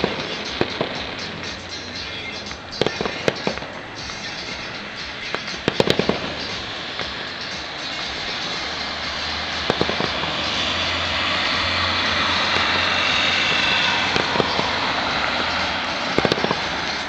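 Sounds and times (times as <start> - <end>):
fireworks rushing hiss: 0.0 - 17.0
fireworks sharp pops: 0.0 - 17.0.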